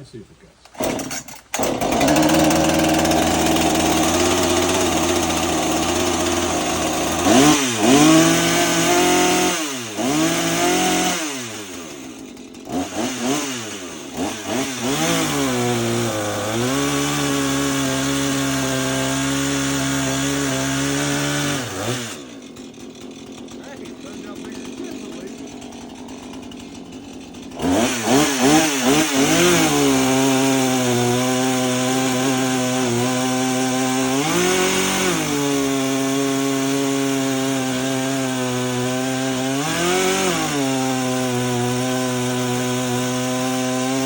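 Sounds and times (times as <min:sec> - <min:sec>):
chainsaw cutting wood: 0:00.6 - 0:44.0.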